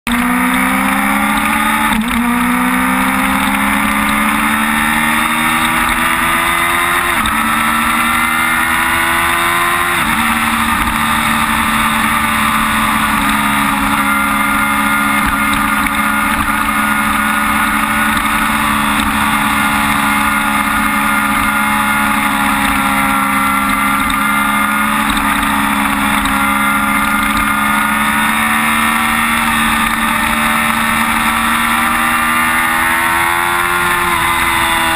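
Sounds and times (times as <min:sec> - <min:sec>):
motorcycle engine accelerating hard: 0:00.0 - 0:34.9.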